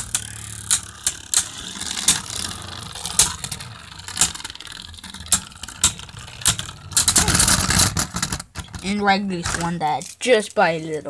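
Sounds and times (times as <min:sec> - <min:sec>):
spinning tops clashing clicks: 0:00.0 - 0:08.9
spinning tops whirring: 0:00.0 - 0:09.0.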